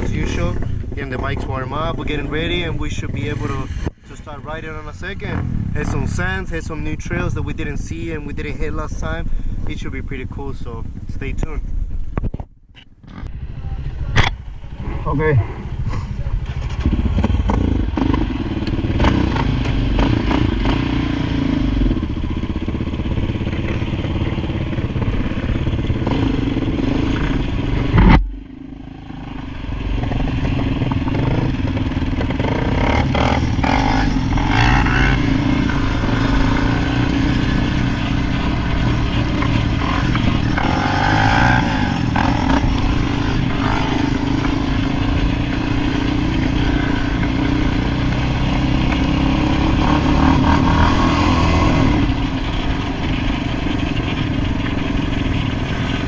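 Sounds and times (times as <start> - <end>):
atv engines running: 0.0 - 12.3, 13.0 - 56.0.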